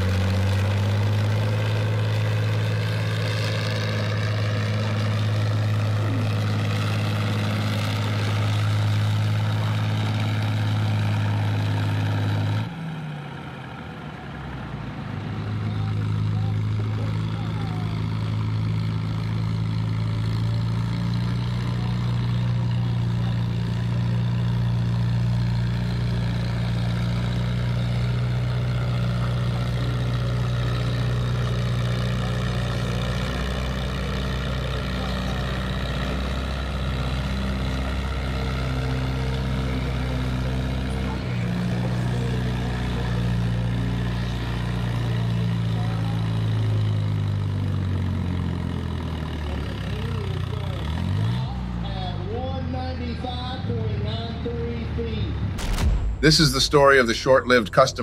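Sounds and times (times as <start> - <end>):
tractor engine droning under load: 0.0 - 58.0.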